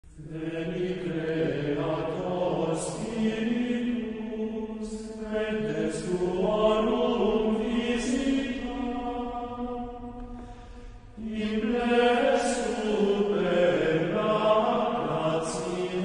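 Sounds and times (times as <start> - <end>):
voices singing a slow chant: 0.1 - 16.0.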